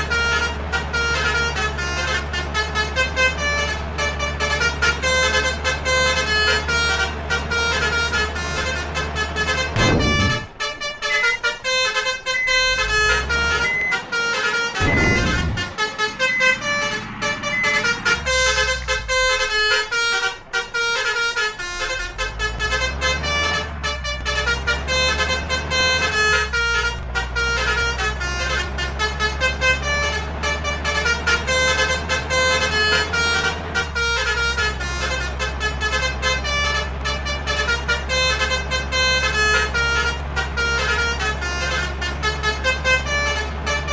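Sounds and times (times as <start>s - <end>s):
multi-tone air horn melody: 0.0s - 43.9s
vehicle engine humming: 0.0s - 43.9s.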